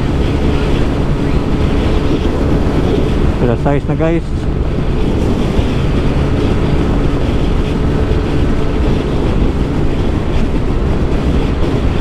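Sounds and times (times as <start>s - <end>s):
scooter engine running: 0.0s - 12.0s
wind buffeting microphone: 0.0s - 12.0s.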